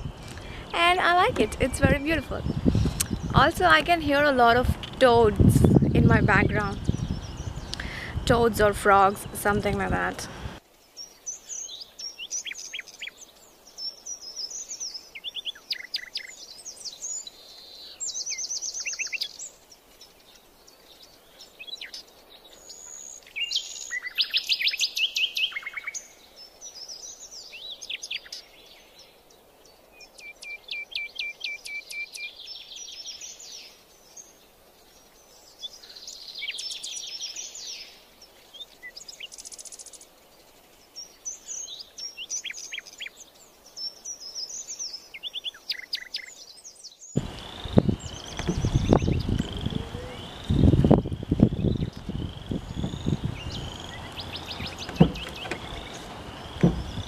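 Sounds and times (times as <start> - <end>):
birds chirping and trilling: 0.0 - 57.0
faint steady hiss: 0.0 - 57.0.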